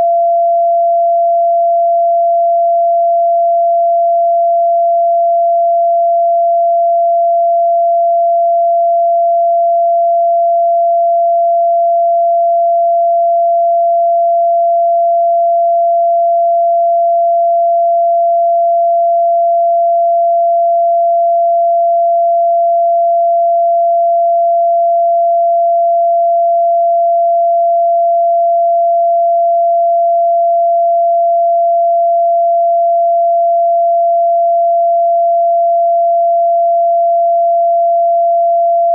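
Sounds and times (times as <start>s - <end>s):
steady sine tone: 0.0s - 38.9s.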